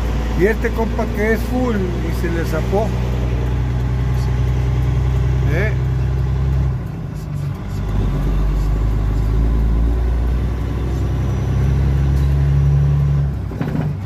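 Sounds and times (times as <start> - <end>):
road noise: 0.0 - 14.0
truck engine drone: 0.0 - 14.0.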